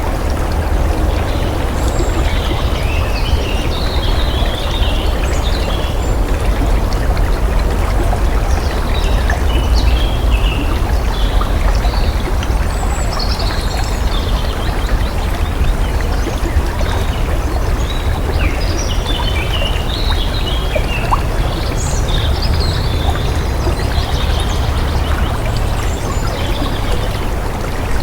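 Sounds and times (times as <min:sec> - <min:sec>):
water flowing: 0:00.0 - 0:28.0.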